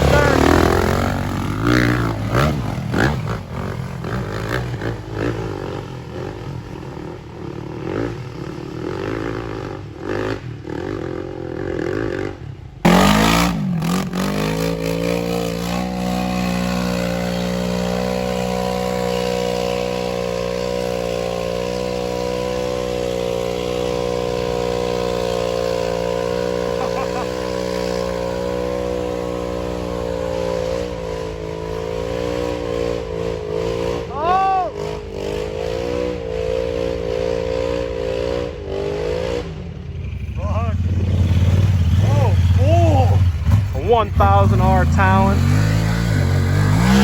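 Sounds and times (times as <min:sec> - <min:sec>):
quad engine revving: 0:00.0 - 0:47.0.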